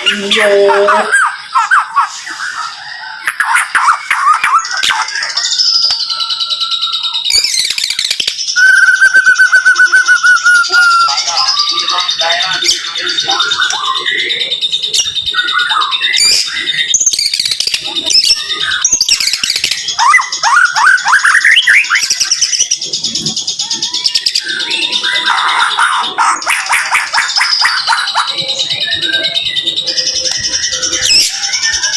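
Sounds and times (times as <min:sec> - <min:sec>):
bird singing rapid song: 0:00.0 - 0:31.9.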